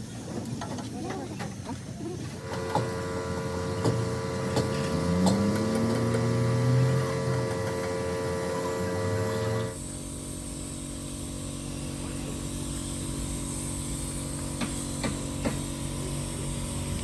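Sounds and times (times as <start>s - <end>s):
machine humming: 2.4s - 17.0s.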